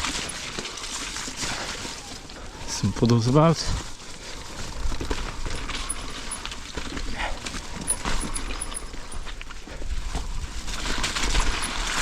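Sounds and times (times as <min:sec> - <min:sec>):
bike knocking and rattling: 0:00.0 - 0:02.0, 0:03.8 - 0:12.0
bike tyres rolling on trail: 0:00.0 - 0:12.0.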